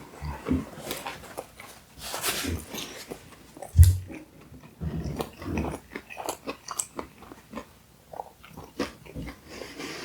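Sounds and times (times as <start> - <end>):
chewing and biting food: 0.4 - 10.0.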